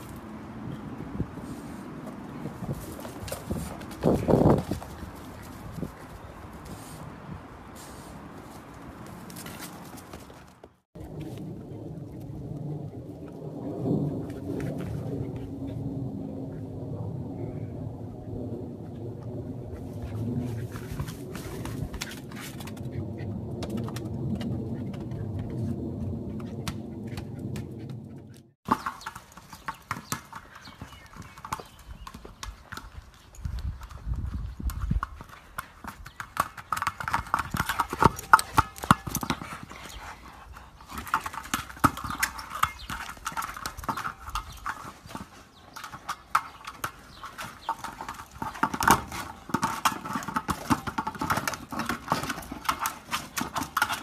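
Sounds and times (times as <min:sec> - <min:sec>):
dog claws skittering on paving: 0:01.4 - 0:07.1, 0:07.7 - 0:12.7, 0:19.8 - 0:54.0.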